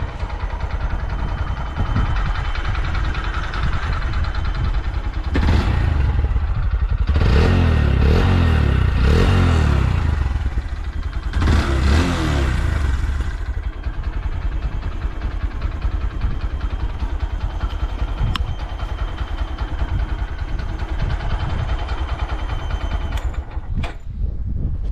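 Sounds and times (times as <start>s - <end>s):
motorcycle engine revving: 0.0s - 23.6s.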